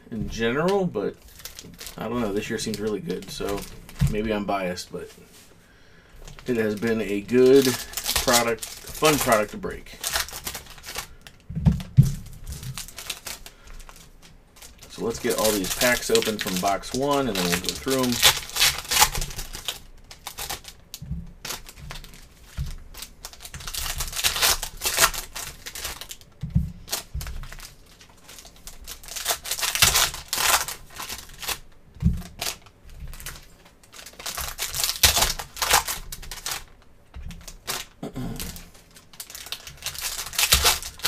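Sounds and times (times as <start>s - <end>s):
rustling: 0.0s - 41.0s
foil wrappers crinkling and tearing: 0.2s - 5.1s, 6.2s - 41.0s.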